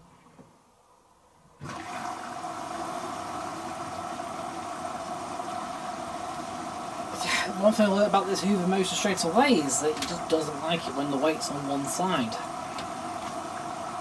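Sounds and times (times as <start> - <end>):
water rushing into washing machine: 1.6 - 14.0.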